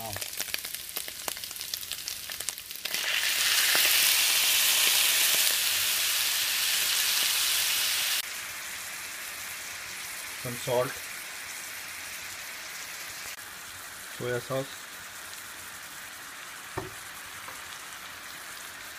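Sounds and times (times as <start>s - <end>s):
food sizzling in hot oil: 0.0s - 18.9s.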